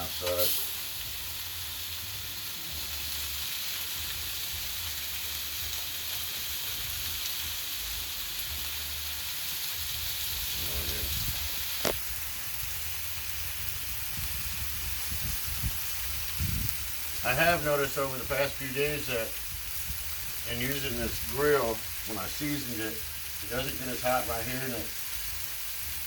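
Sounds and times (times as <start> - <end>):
meat sizzling on a griddle: 0.0 - 26.0.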